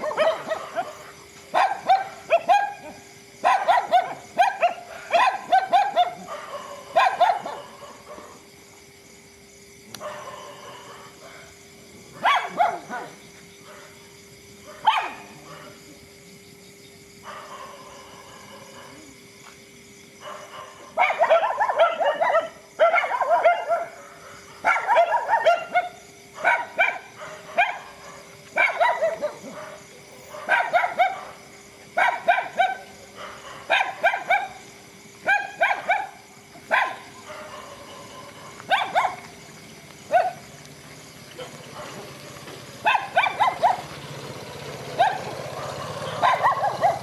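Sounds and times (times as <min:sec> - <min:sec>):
dogs barking: 0:00.0 - 0:08.4, 0:10.0 - 0:14.0, 0:14.6 - 0:16.0, 0:17.2 - 0:19.1, 0:20.2 - 0:40.6, 0:41.2 - 0:47.0.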